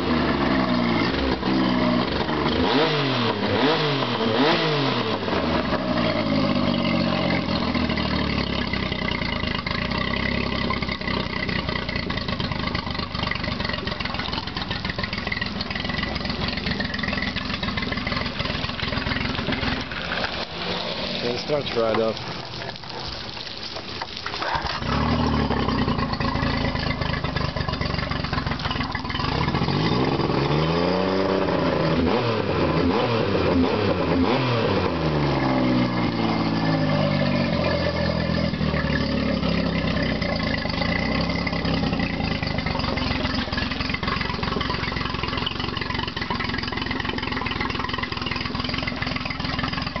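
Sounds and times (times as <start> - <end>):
outboard engine running: 0.0 - 50.0.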